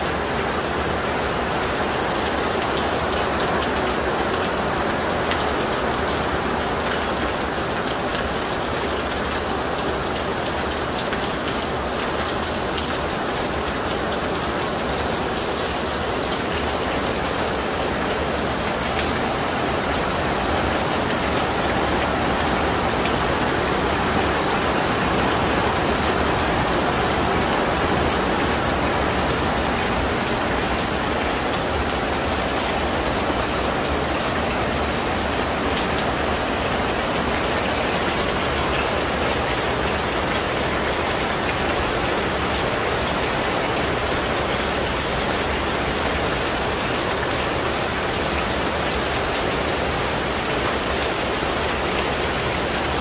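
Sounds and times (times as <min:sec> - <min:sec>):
heavy rain on paving: 0:00.0 - 0:53.0.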